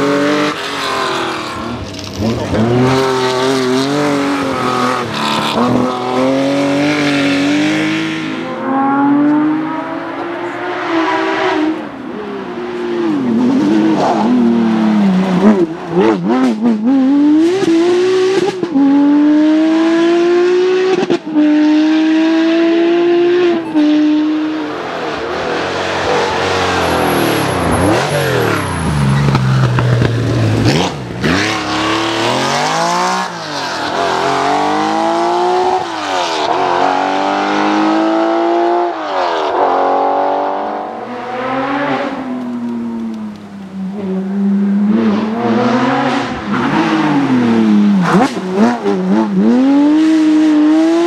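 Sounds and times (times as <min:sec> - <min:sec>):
rally car engine at full throttle: 0:00.0 - 0:51.0.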